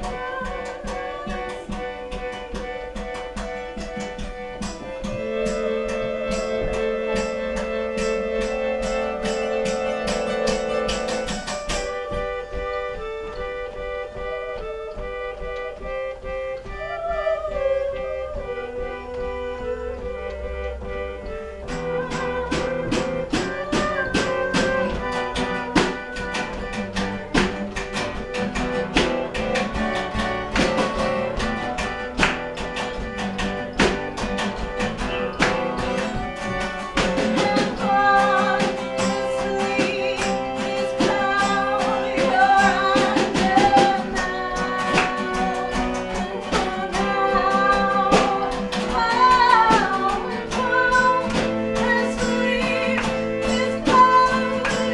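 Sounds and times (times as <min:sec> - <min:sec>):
drum kit: 0:00.0 - 0:54.9
strummed acoustic guitars: 0:00.0 - 0:54.9
voices singing: 0:00.0 - 0:54.9.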